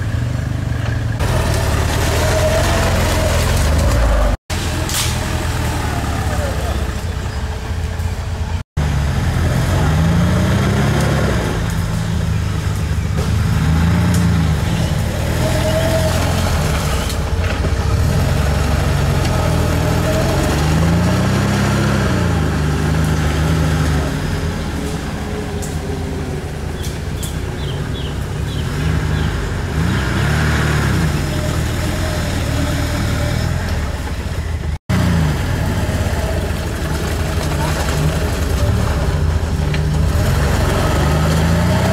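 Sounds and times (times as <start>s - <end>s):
off-road vehicle engine revving: 0.0s - 41.9s.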